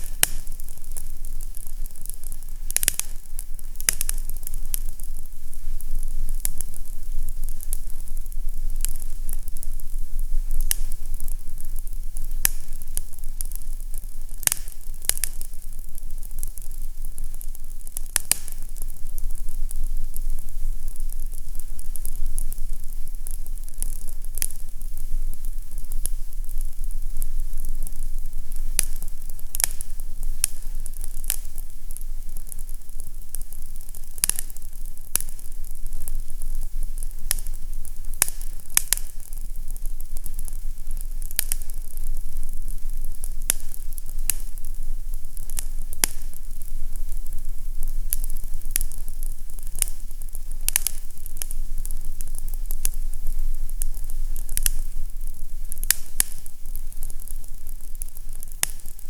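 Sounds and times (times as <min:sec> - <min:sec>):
fireplace crackling: 0:00.0 - 0:59.0.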